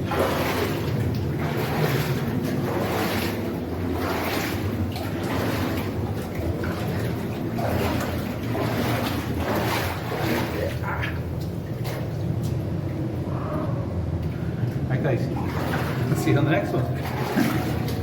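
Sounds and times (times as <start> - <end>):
steady low rumble: 0.0 - 18.0
water sloshing and splashing: 0.0 - 18.0.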